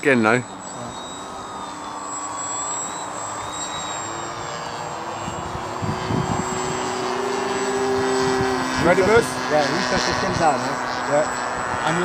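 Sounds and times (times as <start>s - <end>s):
model airplane engines droning: 0.0s - 12.0s.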